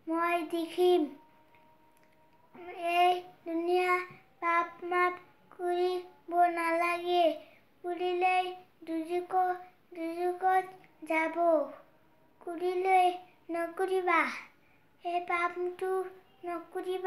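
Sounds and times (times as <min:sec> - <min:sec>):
boy chanting sermon: 0:02.6 - 0:11.8, 0:12.4 - 0:17.0.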